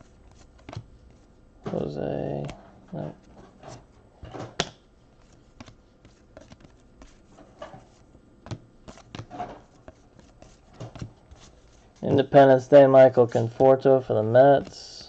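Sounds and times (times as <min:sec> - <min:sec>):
trading cards sliding and tapping: 0:00.3 - 0:12.4.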